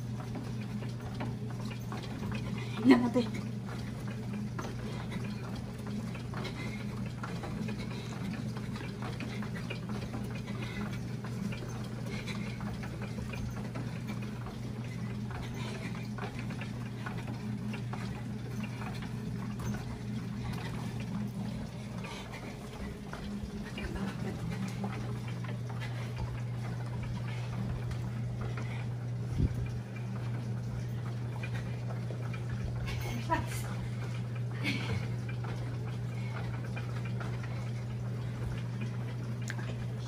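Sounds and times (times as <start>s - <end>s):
elliptical trainer humming: 0.0s - 40.0s
pedals ticking and clicking: 0.0s - 40.0s.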